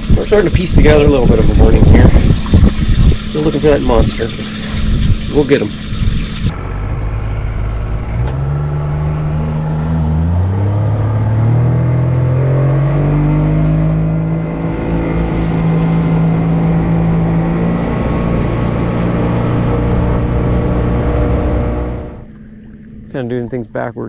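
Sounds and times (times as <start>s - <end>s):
boat motor revving: 0.0s - 24.0s.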